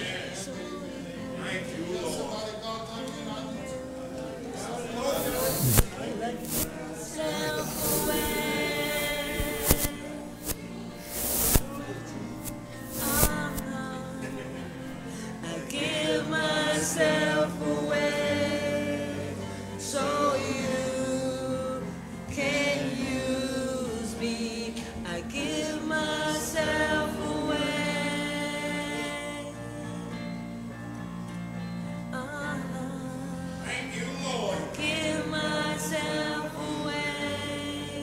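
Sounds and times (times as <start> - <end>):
voices singing gospel: 0.0 - 29.9, 32.2 - 38.0.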